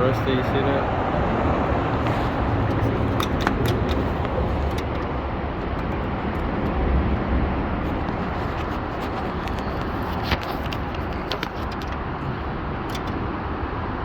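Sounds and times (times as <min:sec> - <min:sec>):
low vehicle engine rumble: 0:00.0 - 0:14.0.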